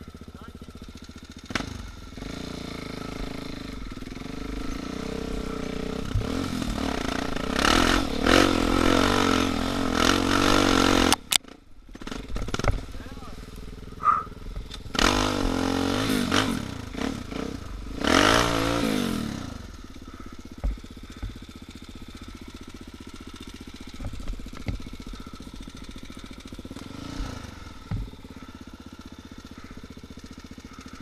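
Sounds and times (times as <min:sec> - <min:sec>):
motorcycle engine revving and idling: 0:00.0 - 0:31.0.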